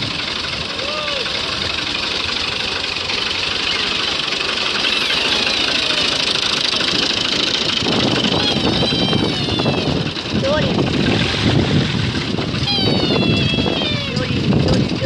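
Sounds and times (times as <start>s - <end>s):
tractor diesel engine: 0.0s - 15.0s.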